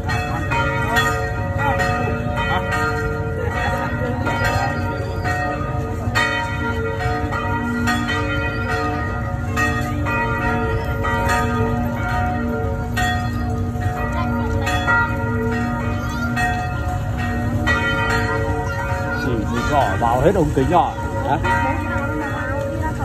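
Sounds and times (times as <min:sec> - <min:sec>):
church bells pealing: 0:00.0 - 0:23.0.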